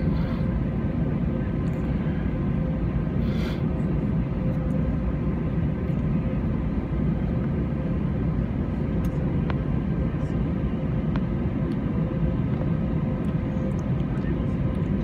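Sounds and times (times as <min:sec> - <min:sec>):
faint steady hum: 0:00.0 - 0:15.0
jet engines rumbling: 0:00.0 - 0:15.0.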